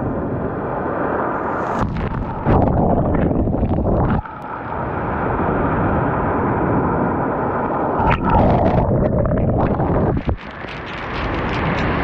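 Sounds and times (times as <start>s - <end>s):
waves rushing over pebbles: 0.6s - 12.0s.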